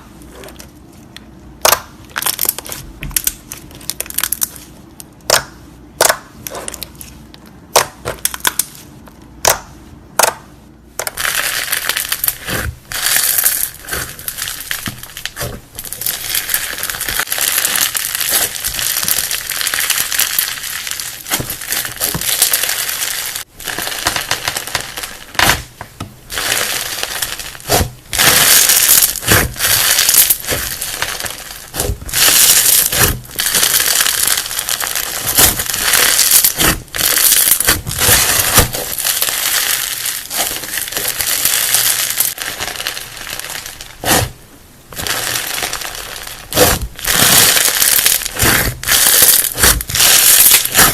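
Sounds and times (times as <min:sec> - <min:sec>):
slime popping and crackling: 0:01.6 - 0:50.9.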